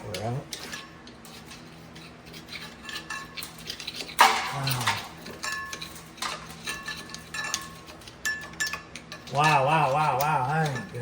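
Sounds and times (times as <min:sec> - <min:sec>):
metal tools clinking: 0:00.1 - 0:11.0.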